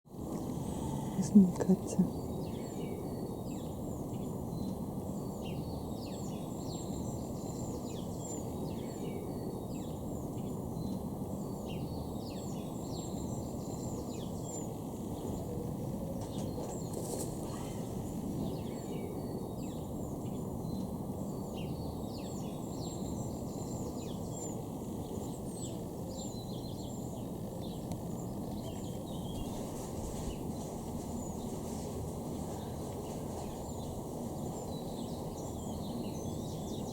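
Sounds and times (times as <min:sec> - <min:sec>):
low background noise: 0:00.1 - 0:36.9
small birds chirping: 0:00.2 - 0:36.9.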